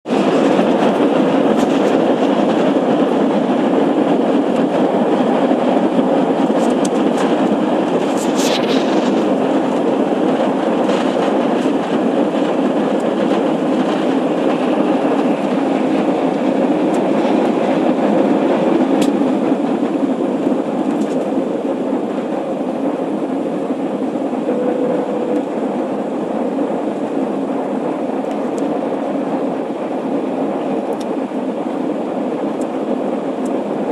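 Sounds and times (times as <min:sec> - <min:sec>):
runway rumble: 0:00.0 - 0:33.9
jet engines roaring: 0:00.1 - 0:31.6.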